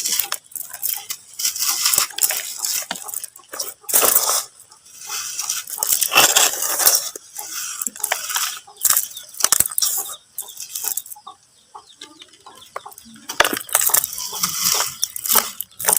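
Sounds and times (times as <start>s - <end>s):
dry mud crumbling and crunching: 0.0s - 11.2s, 12.3s - 15.9s.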